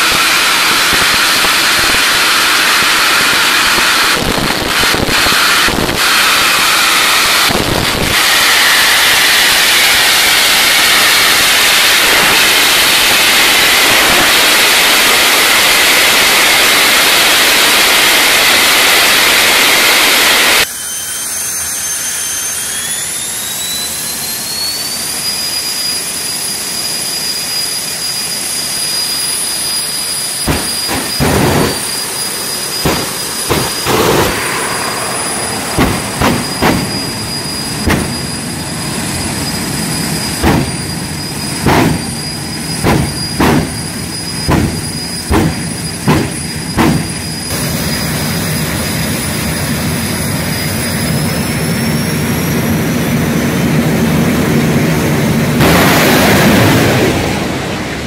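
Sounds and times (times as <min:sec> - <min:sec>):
jet engine roaring: 0:00.0 - 0:58.0
jet turbine whine: 0:00.0 - 0:58.0.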